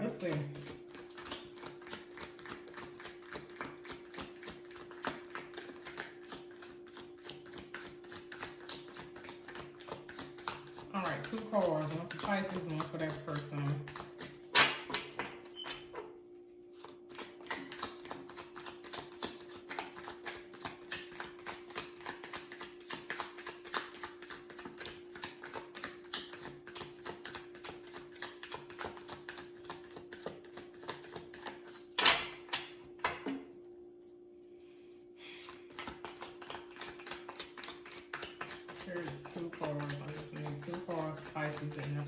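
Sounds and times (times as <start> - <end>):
cards being shuffled: 0.5 - 15.3, 16.7 - 31.8, 35.4 - 42.0.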